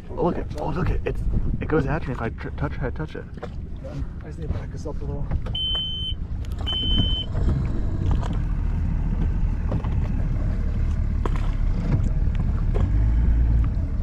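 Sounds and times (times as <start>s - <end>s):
boat motor rumbling: 0.0s - 14.0s.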